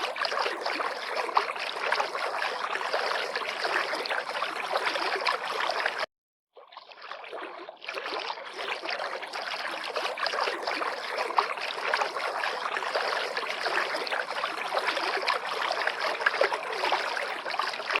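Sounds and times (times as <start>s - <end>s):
river water lapping and gurgling: 0.0s - 18.0s.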